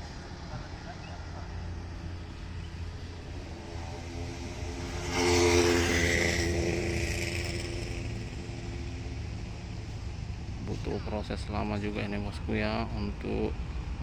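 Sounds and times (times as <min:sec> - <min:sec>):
vehicle passing: 0:00.0 - 0:14.0.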